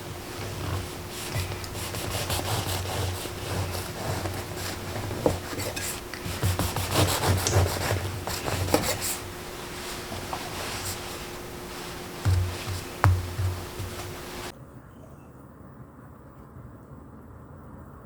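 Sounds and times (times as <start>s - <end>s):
rubbing and scraping strokes: 0.0s - 14.5s.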